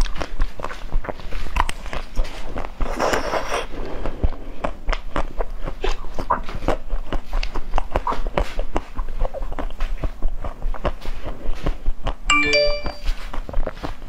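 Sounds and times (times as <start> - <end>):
crunching ice cream bar: 0.0 - 12.2
mouth clicks and smacks: 0.0 - 12.2.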